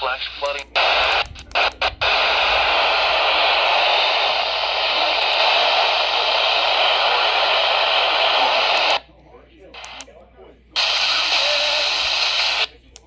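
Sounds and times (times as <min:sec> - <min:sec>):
radio static hiss: 0:00.0 - 0:09.1, 0:09.7 - 0:10.1, 0:10.8 - 0:12.9.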